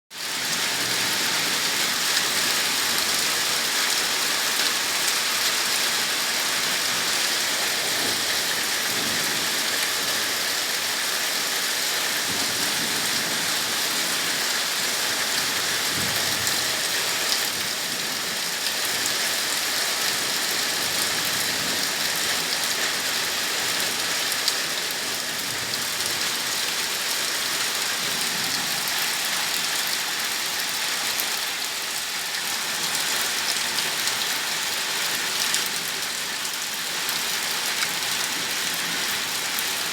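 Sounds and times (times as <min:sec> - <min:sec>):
heavy rain pouring: 0:00.2 - 0:39.9.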